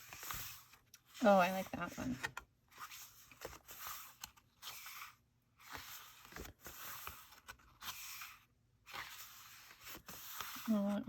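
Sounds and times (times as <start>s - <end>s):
book pages turning: 0.0s - 11.0s.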